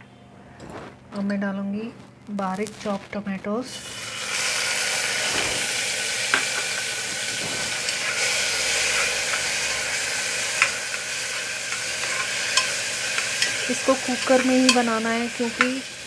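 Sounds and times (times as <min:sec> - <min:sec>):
tomatoes sizzling in hot fat: 0:00.0 - 0:16.0
stirring ticks: 0:00.5 - 0:16.0.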